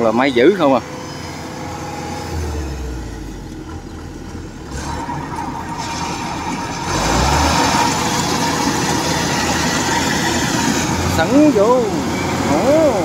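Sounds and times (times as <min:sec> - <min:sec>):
combine harvester engine and machinery: 0:00.0 - 0:13.0.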